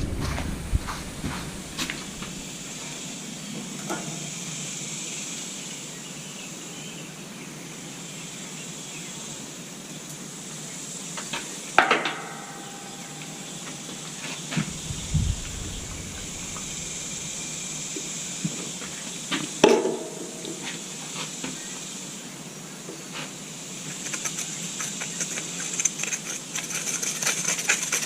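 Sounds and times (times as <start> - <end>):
faint hiss: 0.0 - 28.0.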